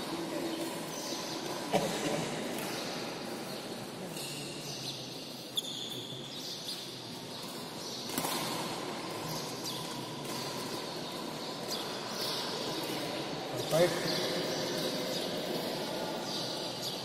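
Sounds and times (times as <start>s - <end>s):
indoor hall room noise: 0.0s - 17.0s.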